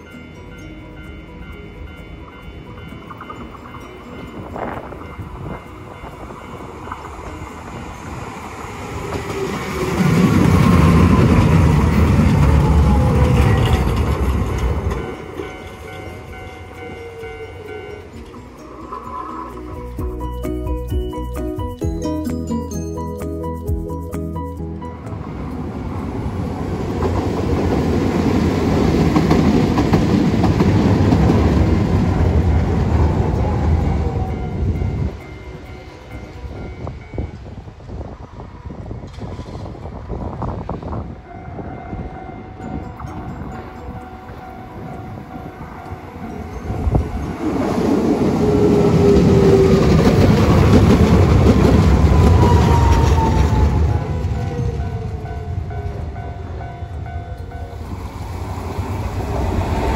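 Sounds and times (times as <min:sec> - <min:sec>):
wheels clicking over rail joints: 0:00.0 - 0:20.2, 0:25.0 - 0:36.7, 0:42.0 - 0:59.9
tram rumbling past: 0:00.0 - 0:59.9.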